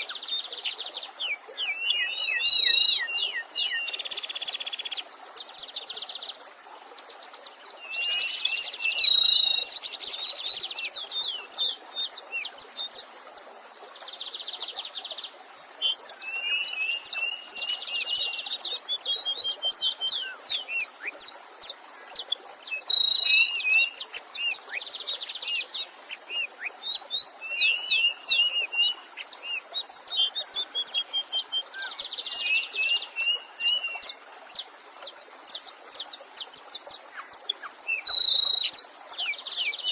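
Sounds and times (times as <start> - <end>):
songbirds singing and calling: 0.0 - 39.9
stream rushing: 0.0 - 39.9.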